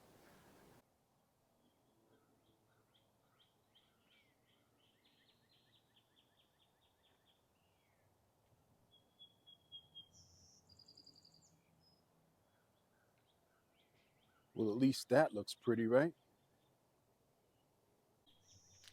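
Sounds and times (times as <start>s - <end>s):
songbird chirping: 1.6s - 18.9s.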